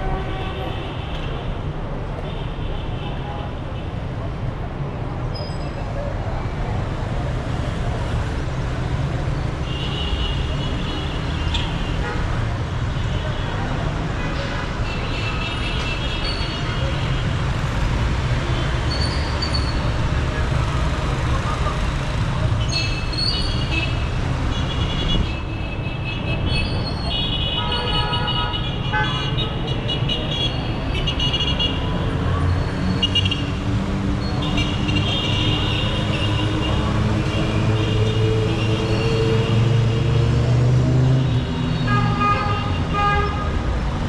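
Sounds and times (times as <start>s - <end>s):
traffic engines rumbling: 0.0s - 44.0s.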